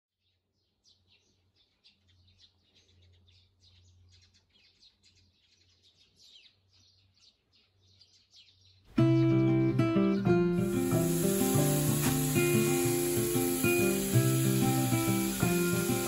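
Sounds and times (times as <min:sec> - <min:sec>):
faint birdsong: 0:00.2 - 0:16.0.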